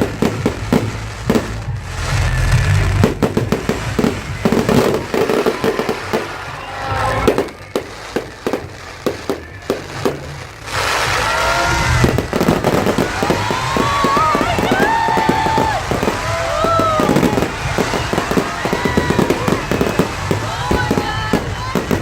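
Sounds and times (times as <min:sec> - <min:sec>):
fireworks bangs and crackles: 0:00.0 - 0:22.0
whistling fireworks hiss: 0:00.0 - 0:22.0.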